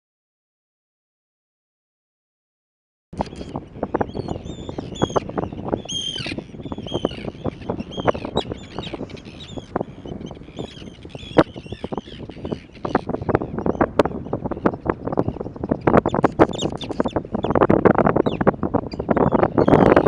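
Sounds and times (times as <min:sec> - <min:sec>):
flock of birds calling: 0:03.2 - 0:20.0.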